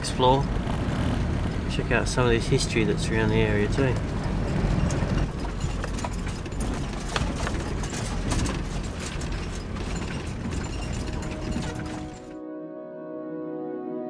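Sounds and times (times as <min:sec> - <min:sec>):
engine and tyres rumbling: 0:00.0 - 0:12.4
vehicle rattles and knocks: 0:00.0 - 0:12.4.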